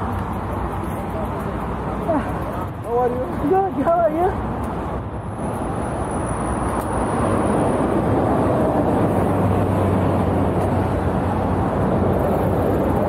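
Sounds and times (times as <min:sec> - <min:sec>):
road vehicle rushing with engine hum: 0:00.0 - 0:13.0.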